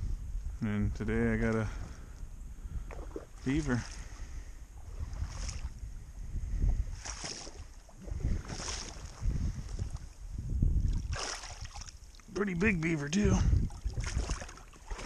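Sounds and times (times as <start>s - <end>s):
water sloshing from wading: 2.7s - 15.0s.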